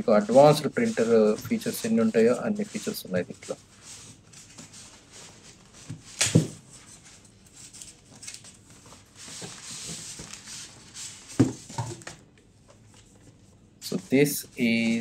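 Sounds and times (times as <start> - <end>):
foam and cardboard rustling: 0.0 - 12.1.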